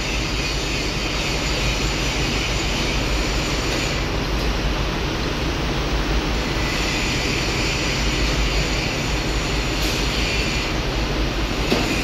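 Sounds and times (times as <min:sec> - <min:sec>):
low mechanical rumble with hiss: 0:00.0 - 0:12.0.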